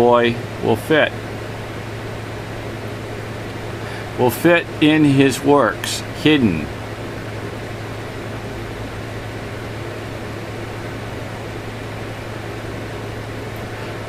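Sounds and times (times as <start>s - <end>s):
steady hum and hiss: 0.0s - 14.0s.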